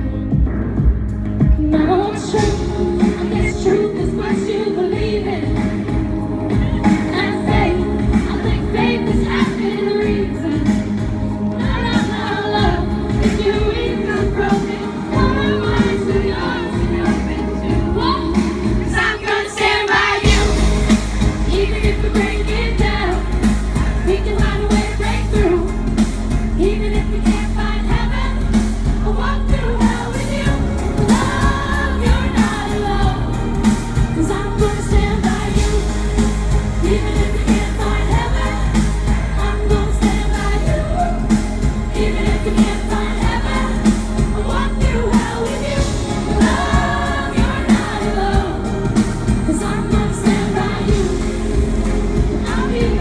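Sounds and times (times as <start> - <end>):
choir-like backing vocals: 0.0 - 53.0
live pop song with female singer: 0.0 - 53.0.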